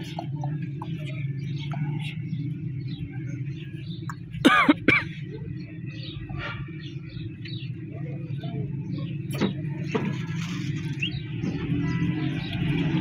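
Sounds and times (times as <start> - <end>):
low vehicle hum: 0.0 - 13.0
small birds chirping: 0.0 - 13.0.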